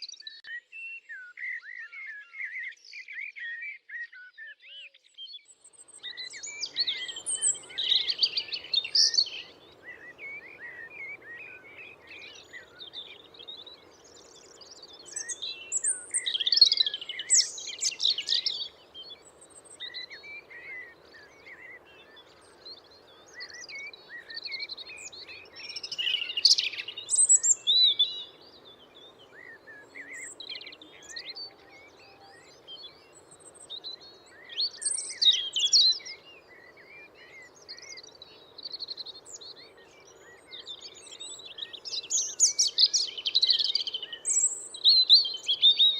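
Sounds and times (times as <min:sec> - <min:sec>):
songbirds singing and chirping: 0:00.0 - 0:45.9
faint steady background hiss: 0:05.5 - 0:45.9.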